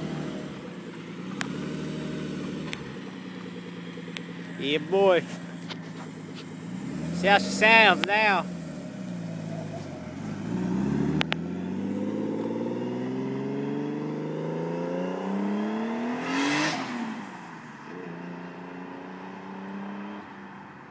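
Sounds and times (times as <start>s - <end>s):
car engine accelerating: 0.0s - 20.6s.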